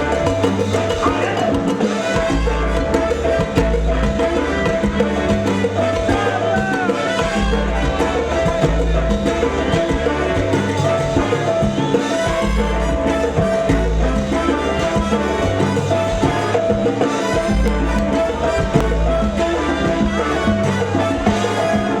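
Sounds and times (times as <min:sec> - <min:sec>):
salsa band playing: 0:00.0 - 0:22.0.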